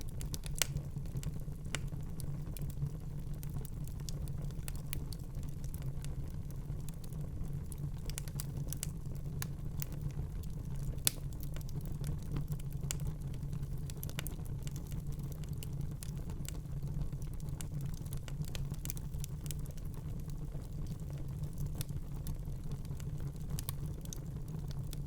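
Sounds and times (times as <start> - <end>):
low rumble of flames: 0.0 - 25.0
wood fire crackling: 0.0 - 25.0.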